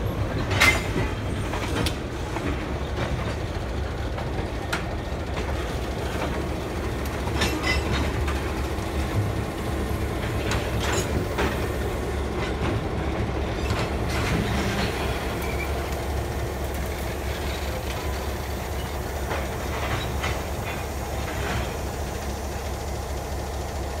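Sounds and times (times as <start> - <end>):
diesel locomotive engine rumble: 0.0 - 24.0
train clicks and clanks: 0.0 - 24.0.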